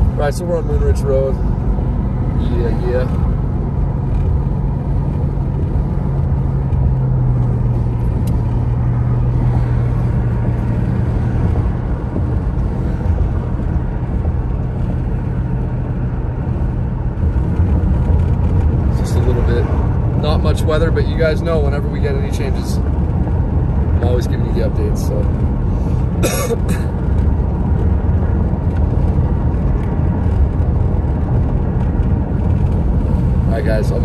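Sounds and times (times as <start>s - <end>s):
low engine drone: 0.0s - 34.0s
tyre and road noise: 0.0s - 34.0s.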